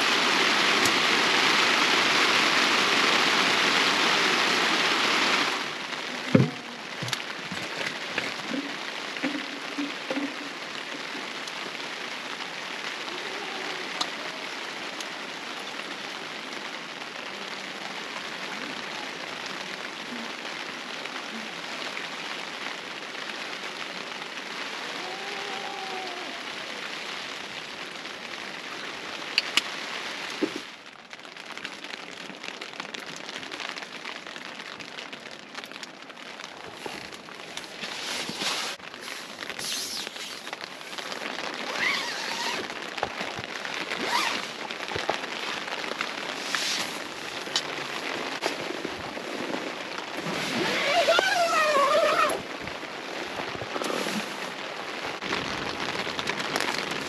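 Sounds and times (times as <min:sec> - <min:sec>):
loud rush of water: 0:00.0 - 0:30.9, 0:36.2 - 0:57.0
soft patter of water: 0:00.0 - 0:57.0.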